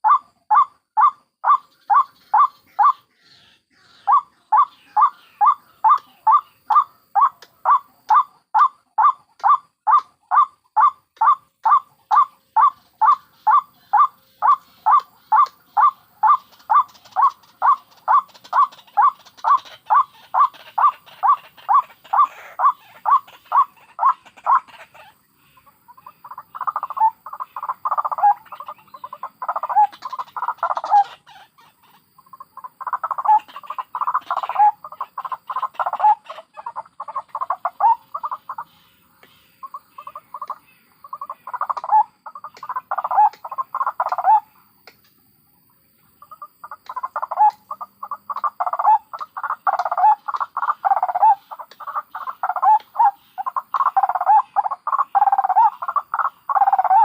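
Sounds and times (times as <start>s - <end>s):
waterhen calls: 0.0s - 44.5s, 46.2s - 57.0s.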